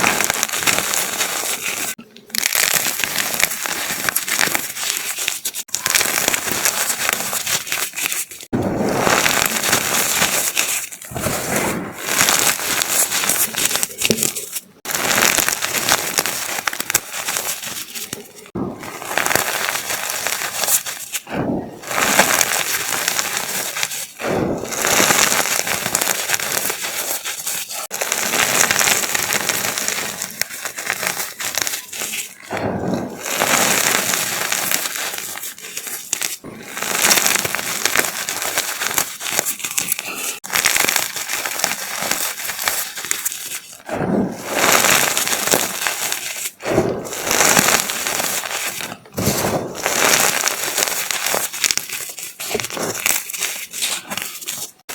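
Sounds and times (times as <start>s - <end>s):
chalk crushing and crunching: 0.0s - 54.9s.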